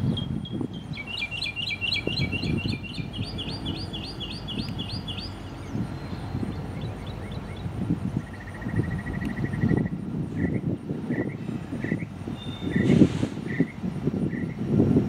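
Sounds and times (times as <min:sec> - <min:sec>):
songbird chirping and trilling: 0:00.0 - 0:14.6
diesel locomotives rumbling: 0:00.0 - 0:15.0.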